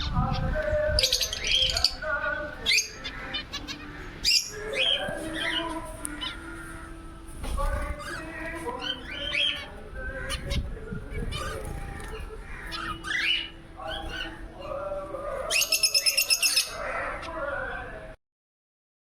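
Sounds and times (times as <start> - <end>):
birds chirping and squawking: 0.0 - 18.2.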